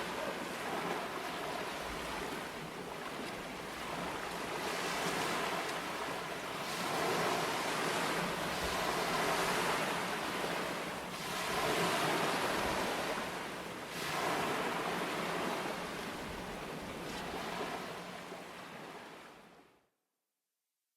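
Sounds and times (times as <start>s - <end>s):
ocean waves breaking: 0.0s - 19.4s.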